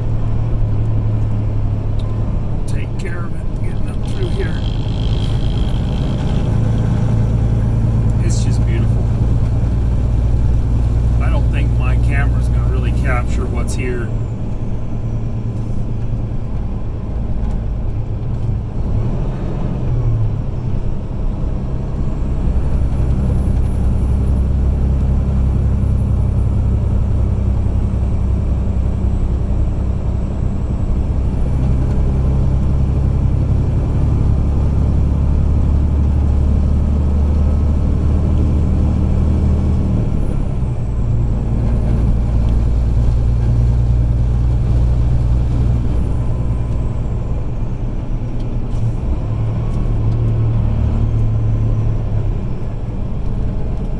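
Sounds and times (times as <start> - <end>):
road noise: 0.0 - 53.9
truck diesel engine under load: 0.0 - 53.9.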